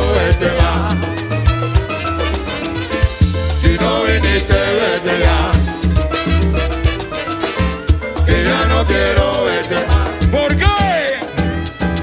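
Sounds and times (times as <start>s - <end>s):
live salsa band playing: 0.0s - 12.0s.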